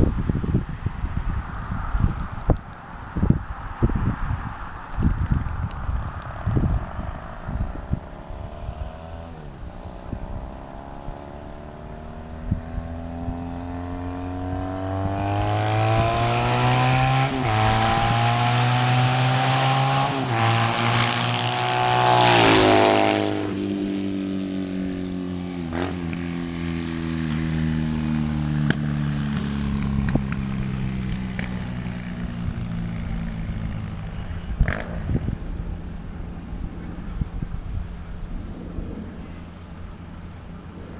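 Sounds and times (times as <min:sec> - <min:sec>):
motorcycle accelerating and passing: 0:00.0 - 0:40.9.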